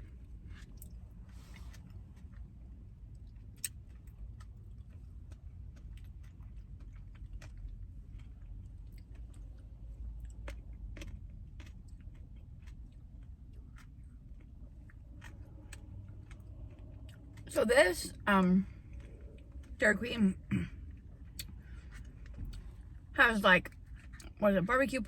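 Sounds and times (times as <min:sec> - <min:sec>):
person chewing: 0:00.0 - 0:17.5, 0:18.1 - 0:19.8, 0:20.4 - 0:23.1
low steady rumble: 0:00.0 - 0:25.0.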